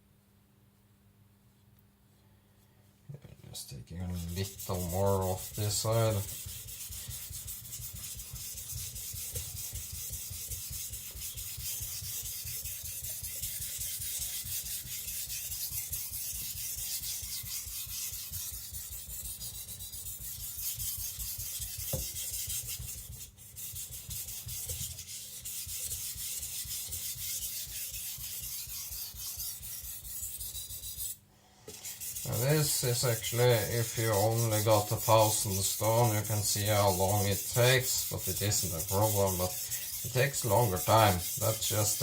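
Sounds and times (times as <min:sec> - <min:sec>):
knife scraping on whetstone: 0:04.1 - 0:42.0.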